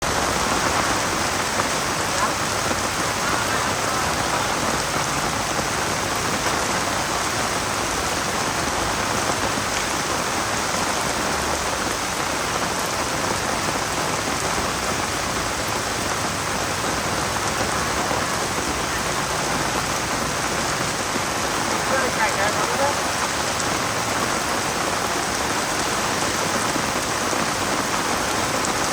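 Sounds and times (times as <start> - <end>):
steady rain falling: 0.0 - 28.9.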